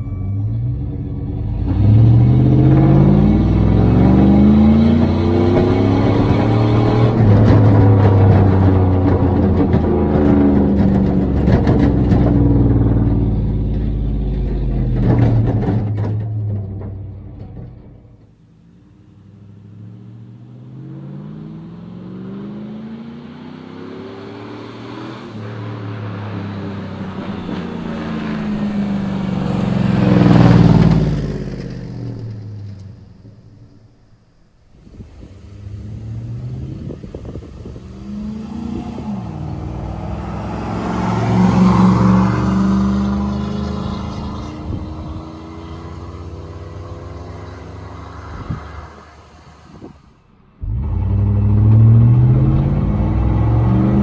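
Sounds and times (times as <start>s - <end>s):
truck engine exhaust revving: 0.0s - 16.0s, 18.1s - 54.0s.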